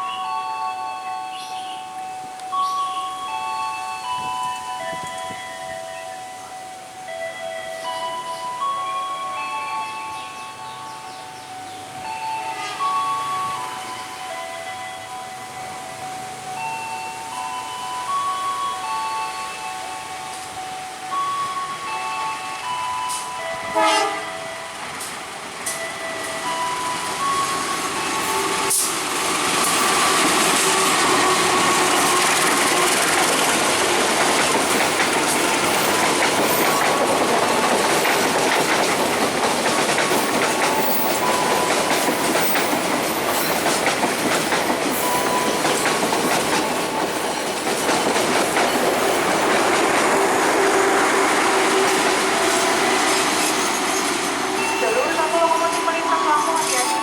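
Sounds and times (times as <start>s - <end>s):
train wheels clattering: 7.1s - 57.0s.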